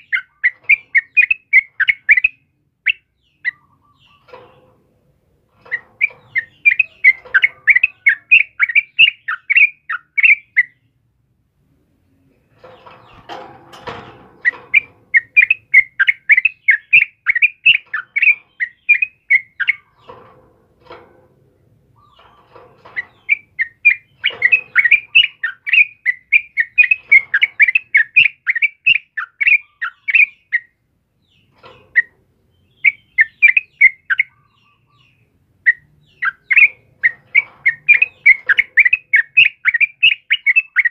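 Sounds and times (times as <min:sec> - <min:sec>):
bird chattering song: 0:00.0 - 0:04.8, 0:05.6 - 0:11.0, 0:12.0 - 0:20.3, 0:21.6 - 0:40.9.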